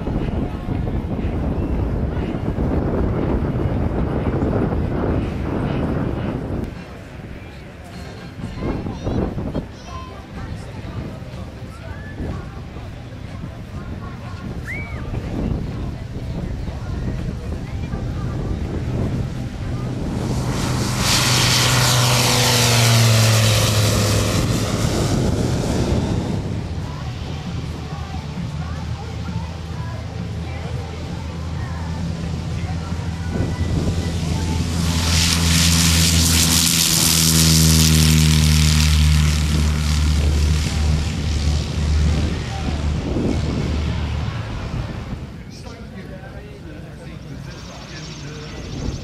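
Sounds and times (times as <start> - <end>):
propeller aircraft taking off: 0.0 - 49.0.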